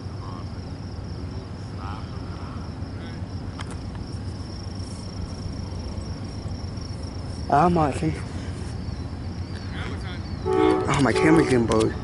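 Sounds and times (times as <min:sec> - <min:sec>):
crickets trilling: 0:00.0 - 0:12.0
low continuous rumble: 0:00.0 - 0:12.0.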